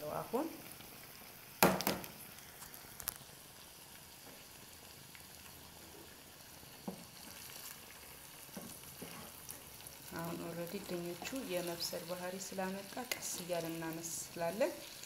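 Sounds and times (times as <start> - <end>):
vegetables sizzling in a pot: 0.0 - 15.0.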